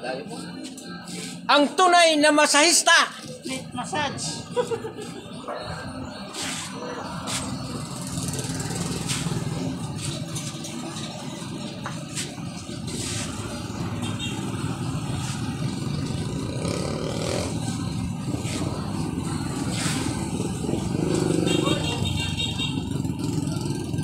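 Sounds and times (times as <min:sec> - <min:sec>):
vehicle engines passing: 0:00.0 - 0:24.0.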